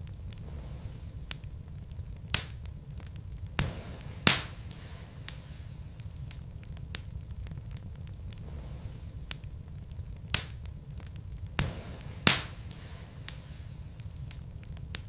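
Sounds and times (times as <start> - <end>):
logs crackling in a fireplace: 0.0 - 15.0
low rumble of fire: 0.0 - 15.0.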